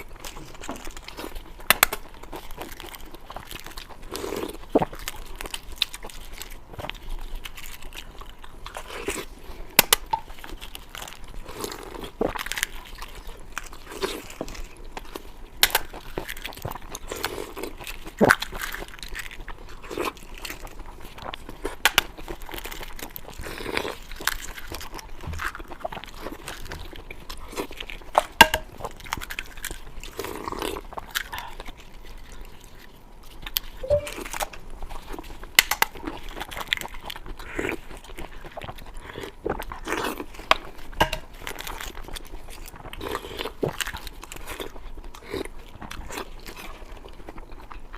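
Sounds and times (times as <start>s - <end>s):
person chewing and crunching food: 0.0s - 47.9s.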